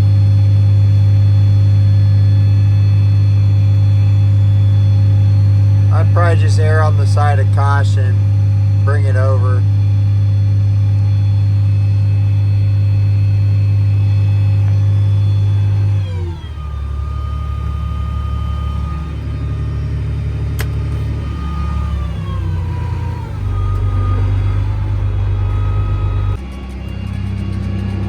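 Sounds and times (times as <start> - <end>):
diesel engine of heavy machinery: 0.0 - 28.0
machine whine: 0.0 - 28.0.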